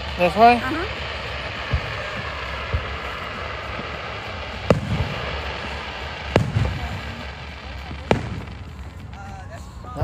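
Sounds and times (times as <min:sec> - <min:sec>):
fireworks booming: 0:00.0 - 0:10.0
outdoor noise hiss: 0:00.0 - 0:10.0.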